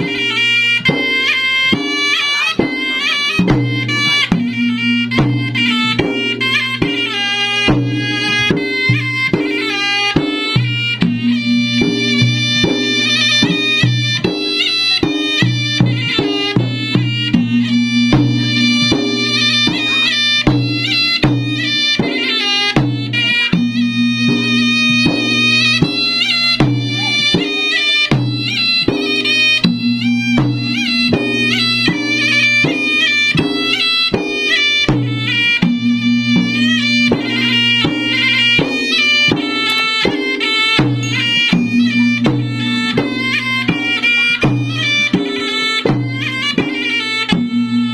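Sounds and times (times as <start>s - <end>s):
drums beating driving rhythm: 0.0s - 47.9s
reedy wind instrument melody: 0.0s - 47.9s.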